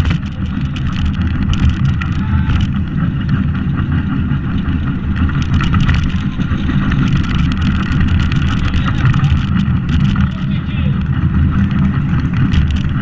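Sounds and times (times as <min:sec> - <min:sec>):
cart wheels rumbling on asphalt: 0:00.0 - 0:13.0
small clicks and rattles: 0:00.0 - 0:13.0.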